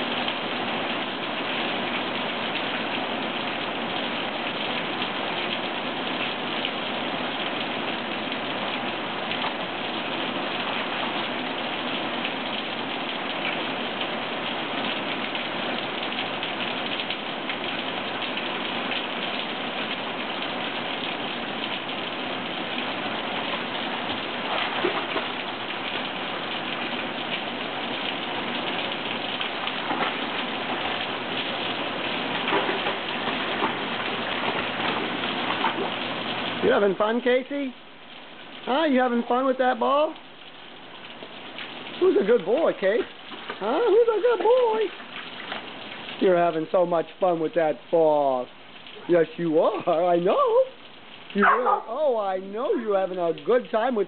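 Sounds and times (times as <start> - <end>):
rain falling on pool: 0.0 - 54.0.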